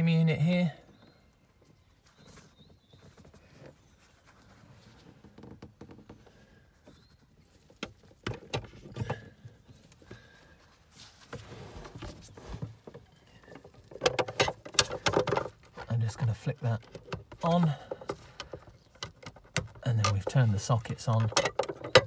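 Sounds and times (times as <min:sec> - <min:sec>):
handling rustling: 0:01.6 - 0:22.0.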